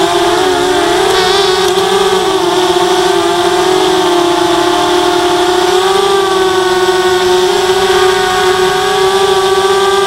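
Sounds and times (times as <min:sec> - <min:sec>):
quadcopter motors buzzing: 0:00.0 - 0:10.0.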